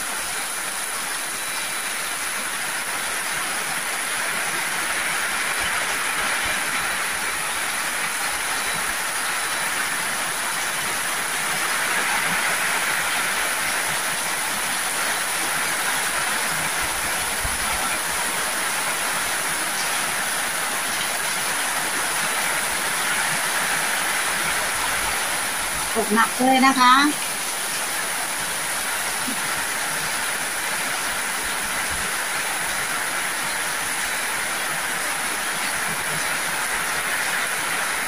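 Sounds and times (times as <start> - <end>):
heavy rain on metal roofs: 0.0 - 38.0.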